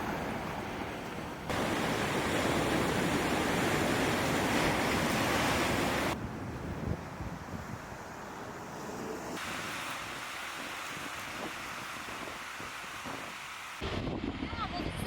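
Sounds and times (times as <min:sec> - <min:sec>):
ocean waves on a beach: 0:00.0 - 0:15.0.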